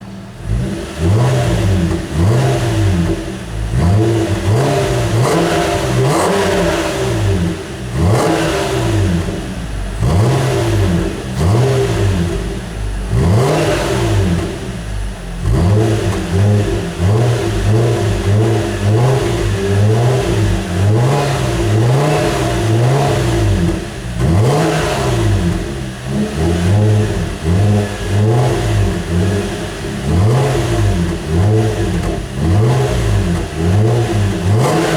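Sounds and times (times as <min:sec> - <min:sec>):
car exhaust revving: 0:00.0 - 0:34.9.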